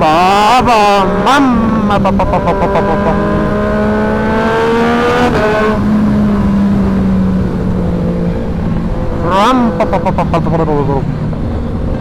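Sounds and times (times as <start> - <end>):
exhaust crackles: 0.0 - 12.0
motorcycle engine and exhaust: 0.0 - 12.0.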